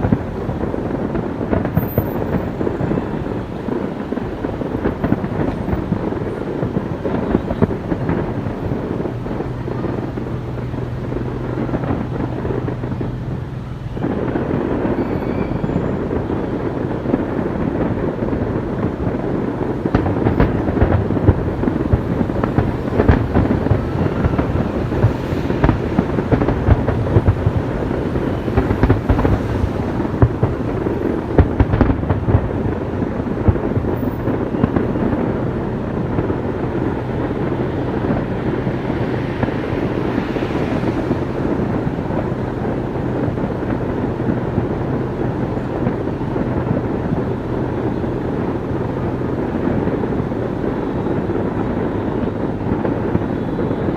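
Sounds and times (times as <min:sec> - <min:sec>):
fireworks bursts and bangs: 0:00.0 - 0:53.9.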